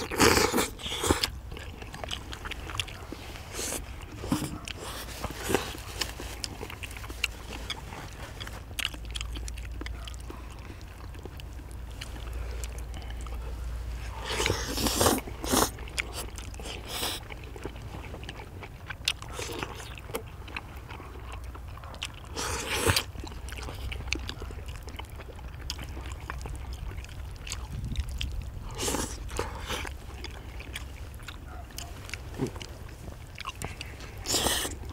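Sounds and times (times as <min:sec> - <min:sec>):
people chewing sticky food: 0:00.0 - 0:34.9
wet sticky mouth sounds: 0:00.0 - 0:34.9.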